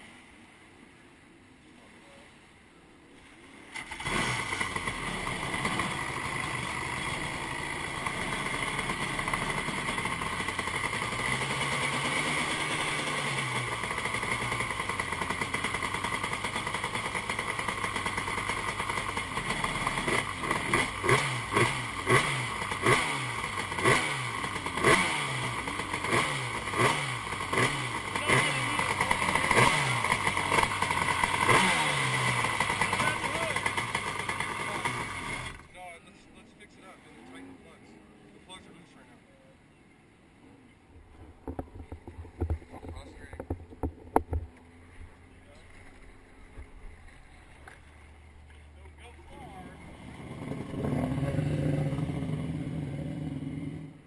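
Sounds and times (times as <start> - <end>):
jet ski engine running: 3.7 - 38.4, 40.6 - 54.0
engine throttle blipping: 3.7 - 39.9, 40.6 - 54.0.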